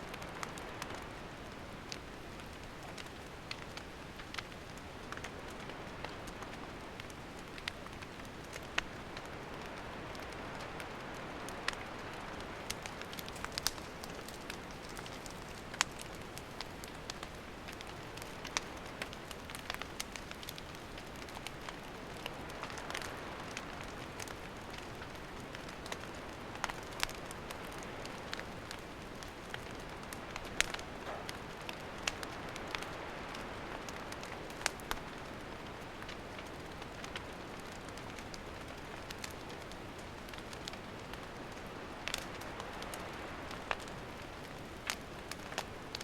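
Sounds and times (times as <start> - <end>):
campfire hissing and crackling: 0.0 - 46.0.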